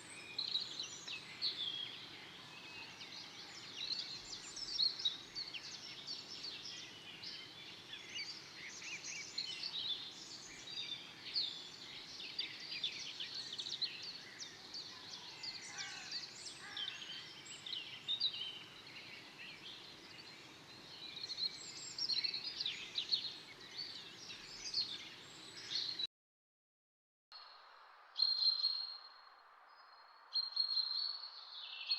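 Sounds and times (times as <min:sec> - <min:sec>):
faint background hiss: 0:00.0 - 0:25.9
songbirds chirping and trilling: 0:00.0 - 0:26.1.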